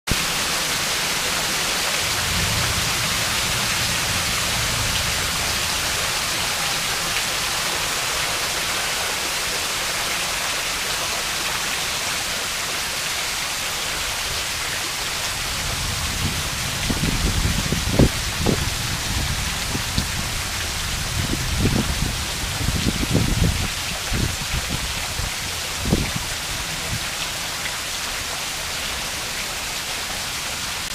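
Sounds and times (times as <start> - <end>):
heavy rain hissing: 0.1 - 30.9
water streaming off roof: 0.1 - 30.9.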